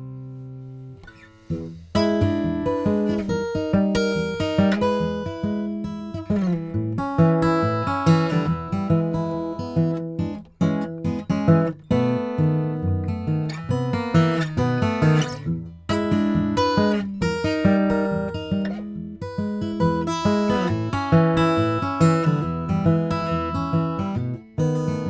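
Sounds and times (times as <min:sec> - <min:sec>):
fingerstyle acoustic guitar: 0:00.0 - 0:25.0.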